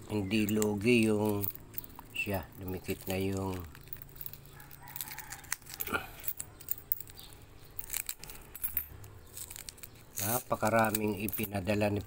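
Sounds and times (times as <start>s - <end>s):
coins clinking in plastic sleeves: 0.2s - 12.0s.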